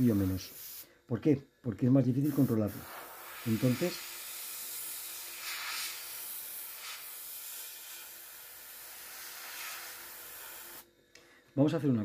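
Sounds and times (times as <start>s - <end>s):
airbrush hissing: 0.0s - 0.9s, 2.2s - 10.9s.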